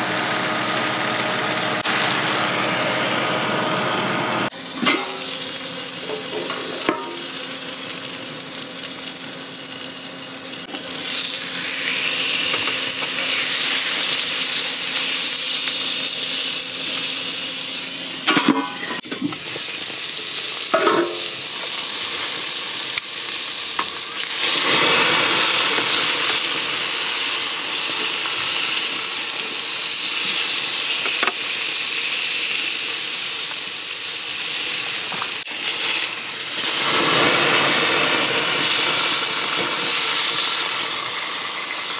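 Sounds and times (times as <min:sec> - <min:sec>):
chicken sizzling on a grill: 0:04.5 - 0:41.9.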